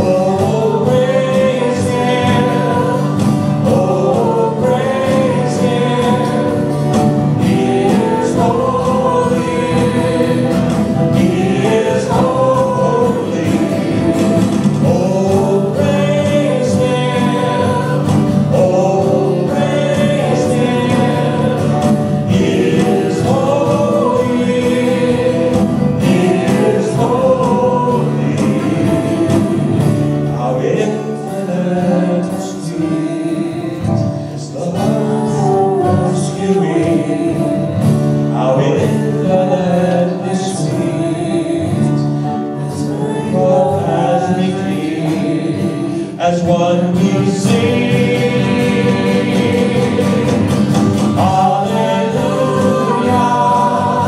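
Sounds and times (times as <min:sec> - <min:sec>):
acoustic guitar: 0:00.0 - 0:54.0
voices singing together: 0:00.0 - 0:54.0.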